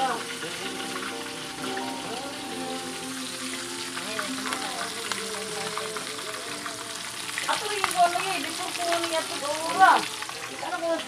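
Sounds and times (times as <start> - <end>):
fish deep-frying in sizzling oil: 0.0 - 11.0.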